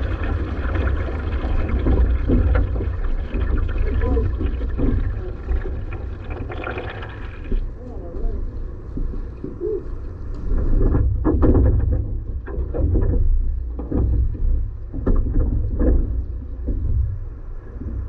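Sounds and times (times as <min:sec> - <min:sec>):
low rumble: 0:00.0 - 0:18.0
rowing stroke noises: 0:00.0 - 0:18.0.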